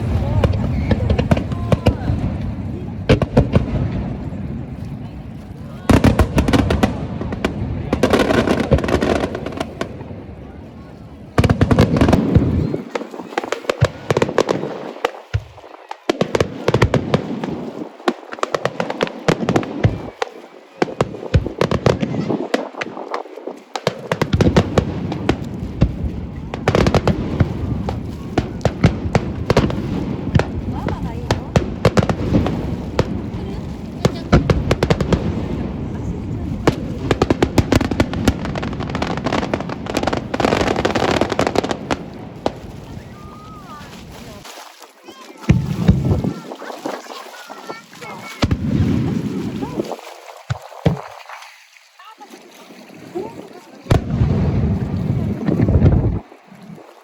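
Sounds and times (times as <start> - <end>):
fireworks bangs and crackles: 0.0 - 44.4, 45.0 - 51.3, 53.8 - 56.8.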